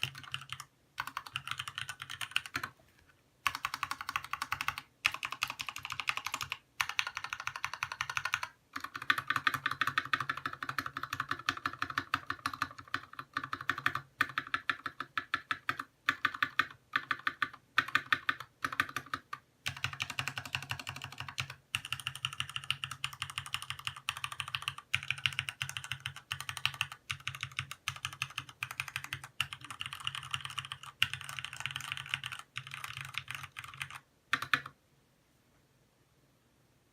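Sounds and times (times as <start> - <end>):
mechanical keyboard typing: 0.0 - 2.7, 3.4 - 34.8.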